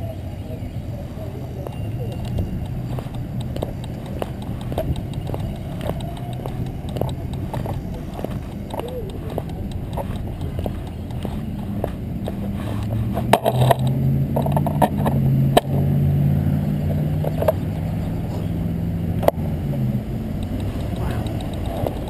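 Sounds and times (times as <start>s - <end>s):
vehicle engine drone: 0.0s - 22.0s
wind and road rumble: 0.0s - 22.0s
sharp clicks and knocks: 1.6s - 15.8s, 16.8s - 18.2s, 19.2s - 22.0s.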